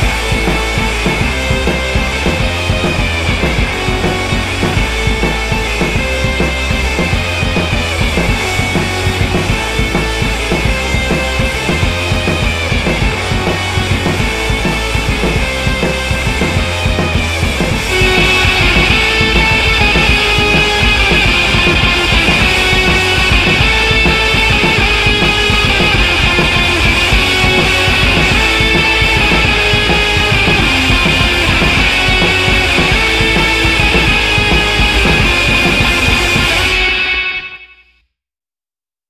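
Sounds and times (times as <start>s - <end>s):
instrumental rock music: 0.0s - 37.8s.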